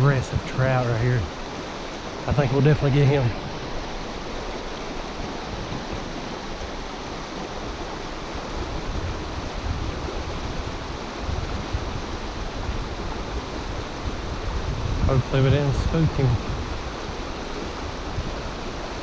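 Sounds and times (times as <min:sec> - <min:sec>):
stream flowing over rocks: 0:00.0 - 0:19.0.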